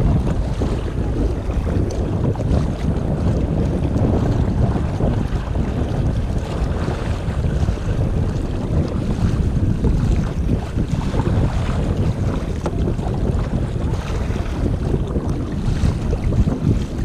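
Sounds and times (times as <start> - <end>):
water splashing against kayak: 0.0 - 17.0
wind buffeting microphone: 0.0 - 17.0.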